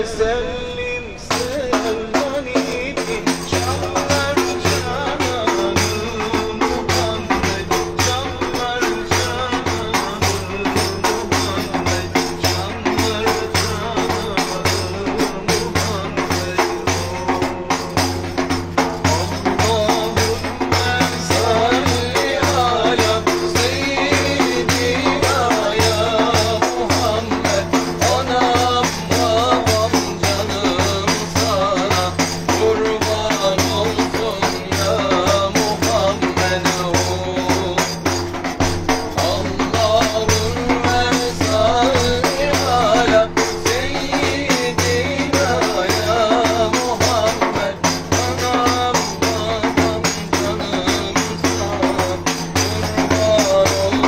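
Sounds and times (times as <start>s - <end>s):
men singing in unison: 0.0s - 54.0s
frame drum beat: 1.3s - 54.0s.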